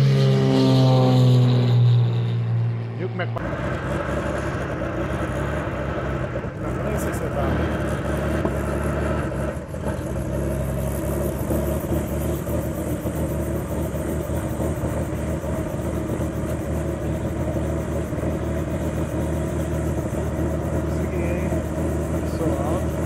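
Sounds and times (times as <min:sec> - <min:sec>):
helicopter engine and rotor hum: 0:02.8 - 0:08.6, 0:09.6 - 0:23.0.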